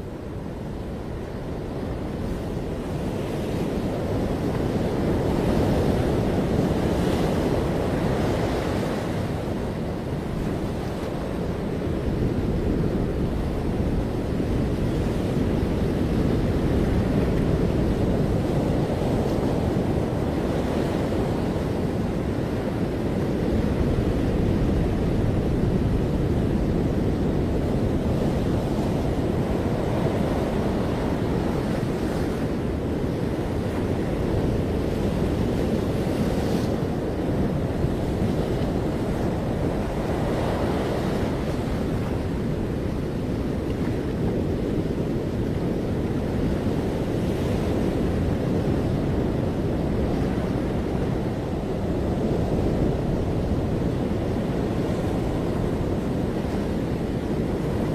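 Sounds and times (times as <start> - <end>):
waves breaking on beach: 0.0 - 57.9
wind buffeting microphone: 0.0 - 57.9.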